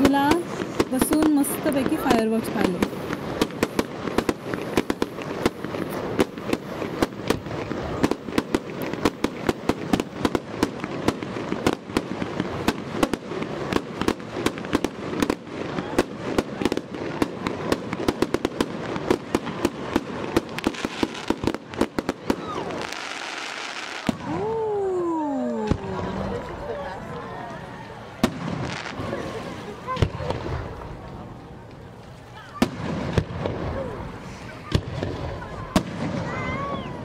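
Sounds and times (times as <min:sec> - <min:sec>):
fireworks popping and banging: 0:00.0 - 0:24.6, 0:25.4 - 0:37.0.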